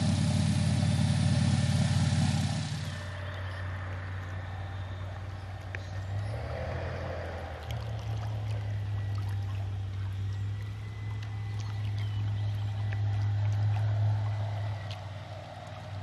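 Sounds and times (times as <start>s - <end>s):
airboat engine and propeller drone: 0.0s - 16.0s.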